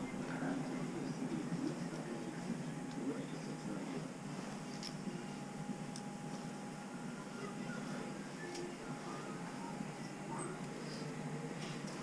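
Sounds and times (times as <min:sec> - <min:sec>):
faint low murmur: 0:00.0 - 0:12.0.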